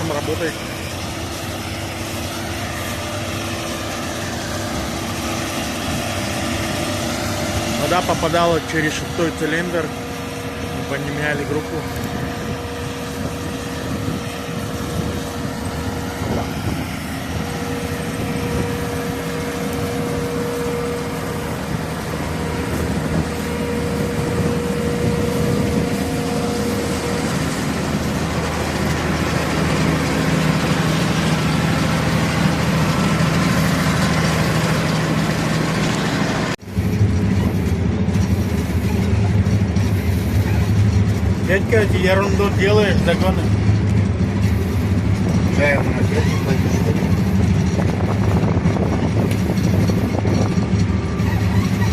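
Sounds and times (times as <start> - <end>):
combine harvester diesel engine: 0.0 - 51.9.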